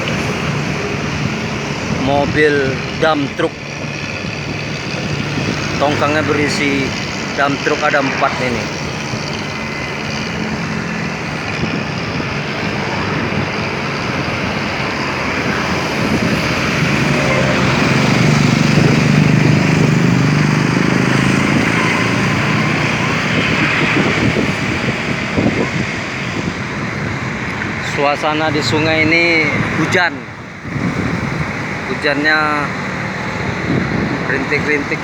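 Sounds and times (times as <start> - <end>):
engine low rumble: 0.0 - 35.0.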